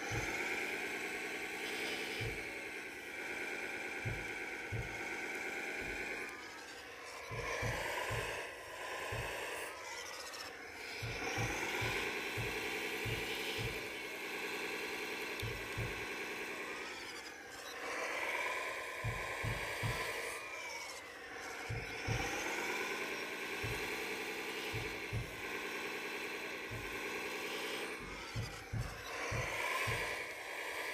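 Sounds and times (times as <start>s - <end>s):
toy excavator motors whining: 0.0s - 30.9s.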